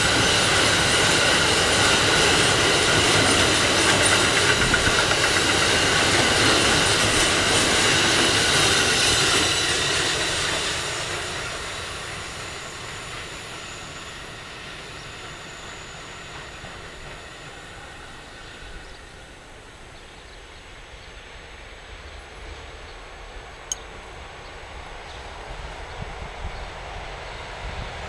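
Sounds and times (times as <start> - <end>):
freight train wagons on rails: 0.0 - 28.0.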